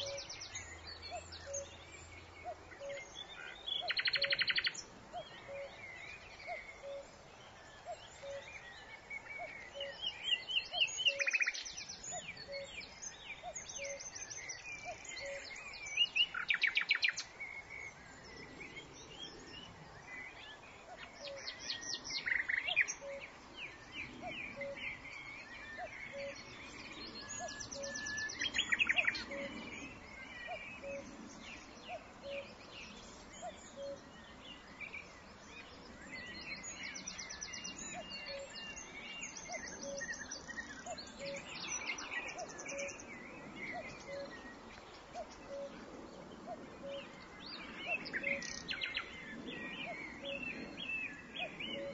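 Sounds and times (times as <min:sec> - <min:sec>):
birds chirping and trilling: 0:00.0 - 0:51.9.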